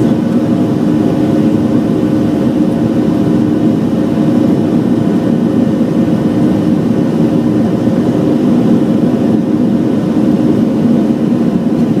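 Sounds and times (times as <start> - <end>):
airplane cabin engine noise: 0.0 - 12.0.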